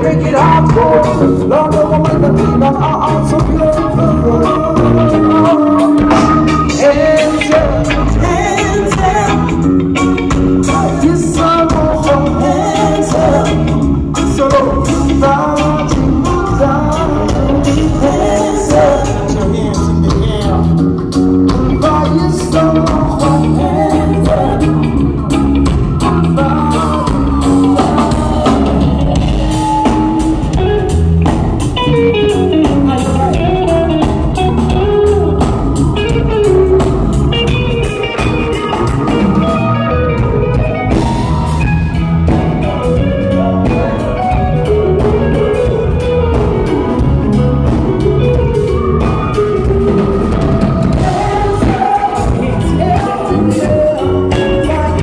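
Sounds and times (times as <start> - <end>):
drum kit: 0.0 - 55.0
guitar playing: 0.0 - 55.0
person singing: 0.0 - 55.0.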